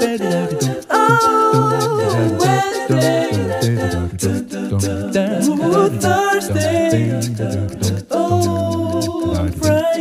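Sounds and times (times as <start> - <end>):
bass line: 0.0 - 9.8
person singing: 0.0 - 10.0
steady beat: 0.0 - 10.0.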